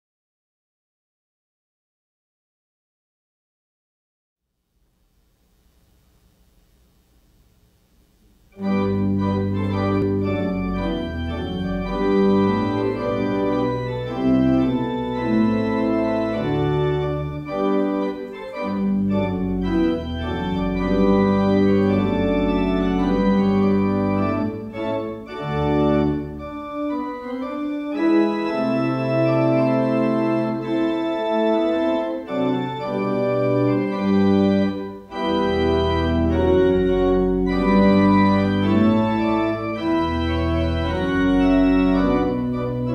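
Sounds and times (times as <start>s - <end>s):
organ music: 5.5s - 42.9s.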